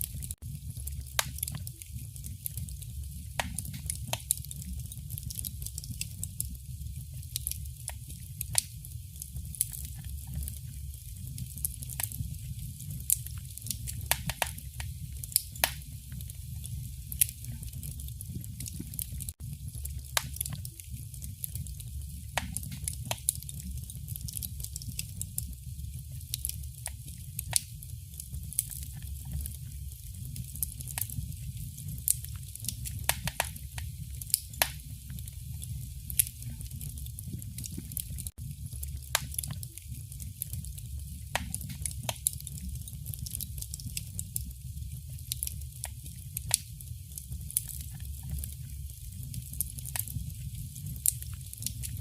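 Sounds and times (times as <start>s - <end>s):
fire crackling and popping: 0.0s - 52.0s
low rumble of flames: 0.0s - 52.0s.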